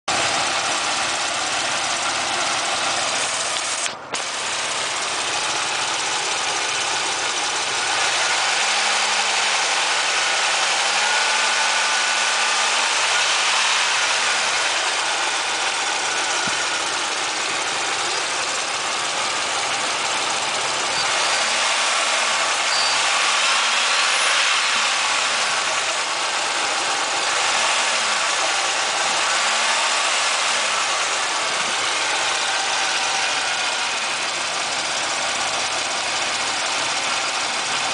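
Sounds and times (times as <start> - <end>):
car engine idling with top-end noise: 0.1 - 37.9.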